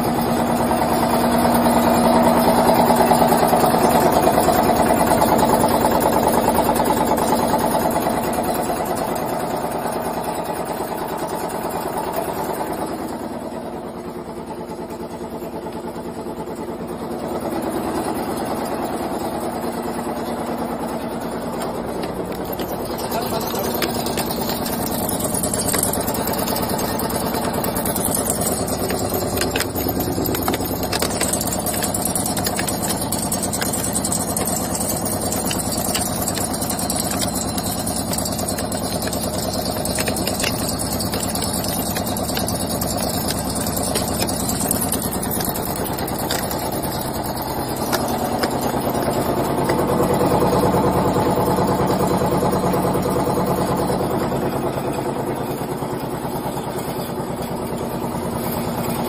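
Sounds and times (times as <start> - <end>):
nail making machine clattering: 0.0 - 13.3, 16.4 - 59.0.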